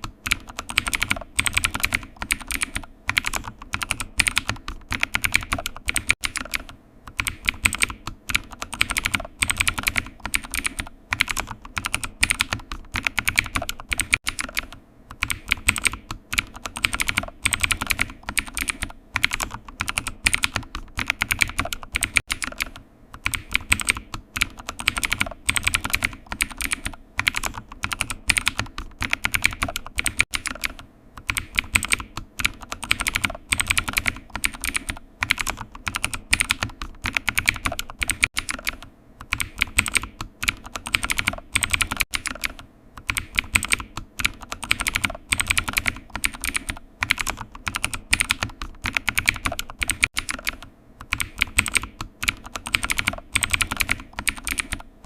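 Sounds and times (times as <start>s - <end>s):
keyboard typing: 0.0s - 55.0s.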